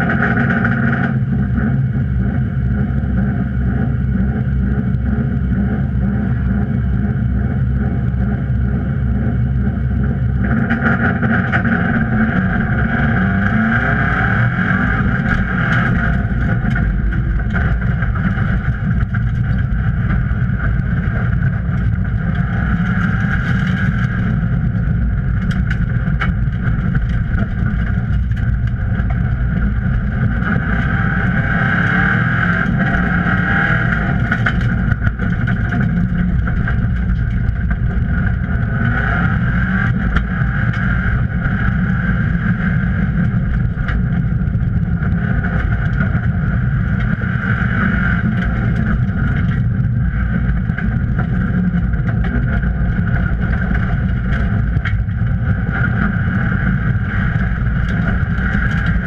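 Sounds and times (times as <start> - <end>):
rally car engine running hard: 0.0 - 59.0.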